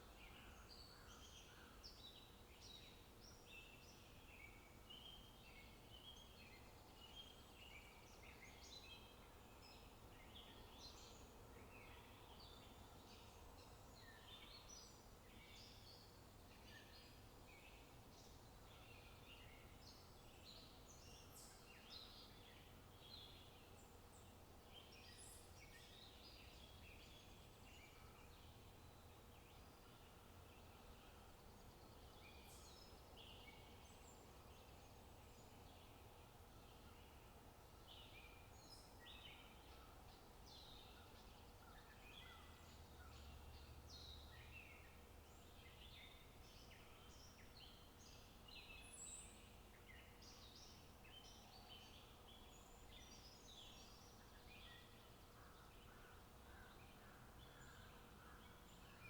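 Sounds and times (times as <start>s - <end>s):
low steady background hush: 0.0s - 59.0s.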